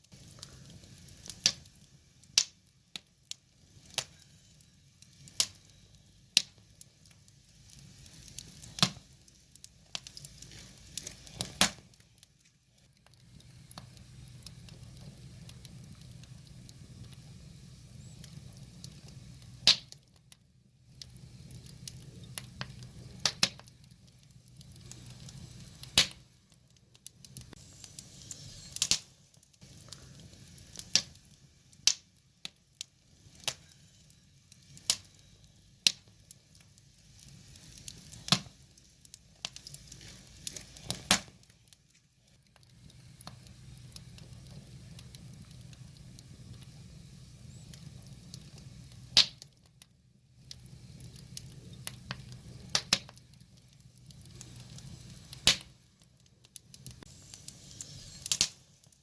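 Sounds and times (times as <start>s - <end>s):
hiss of burning logs: 0.0s - 59.0s
wood fire crackling: 0.0s - 59.0s.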